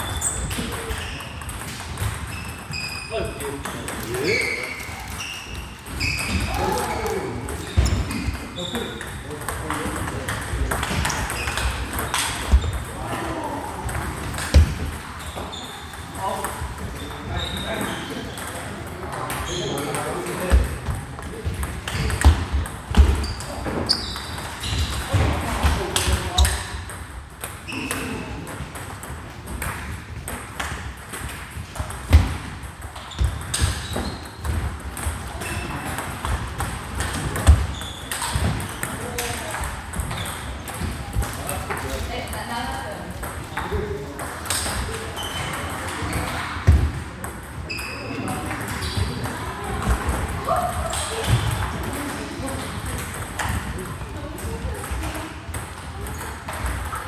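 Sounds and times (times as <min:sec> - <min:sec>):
table tennis balls clicking: 0:03.3 - 0:42.5, 0:43.2 - 0:57.0.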